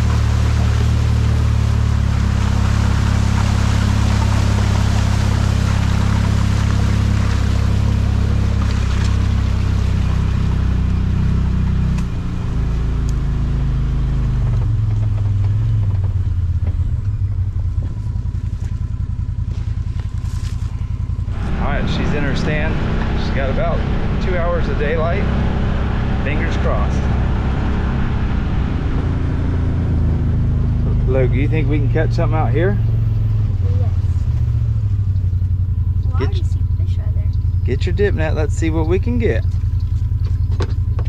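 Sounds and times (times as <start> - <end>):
utv engine running: 0.0 - 41.0.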